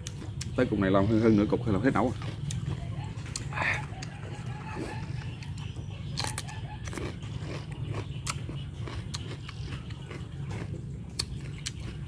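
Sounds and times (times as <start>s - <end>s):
chewing raw cucumber: 0.0s - 0.9s, 1.6s - 12.0s
steady low hum: 0.0s - 12.0s.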